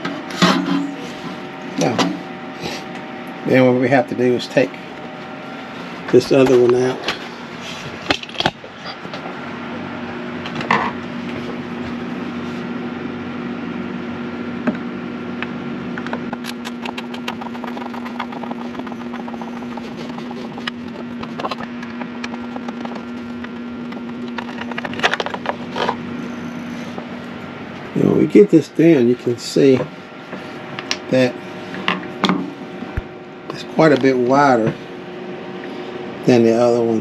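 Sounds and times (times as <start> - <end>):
electric fan humming: 0.0 - 37.0.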